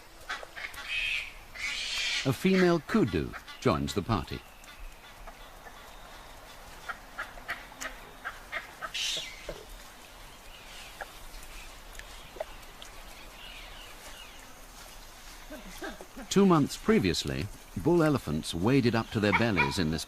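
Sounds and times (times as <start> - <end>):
wild birds calling: 0.0 - 20.0.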